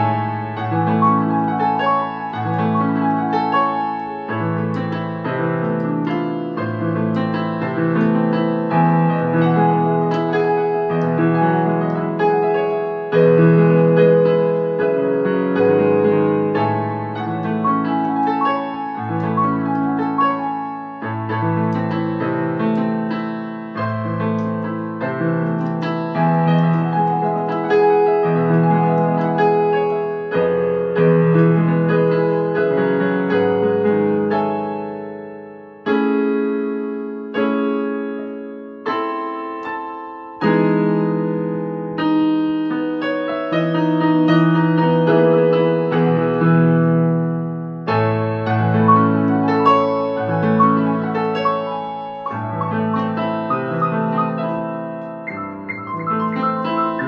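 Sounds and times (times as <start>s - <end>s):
electronic keyboard piano playing: 0.0s - 57.0s.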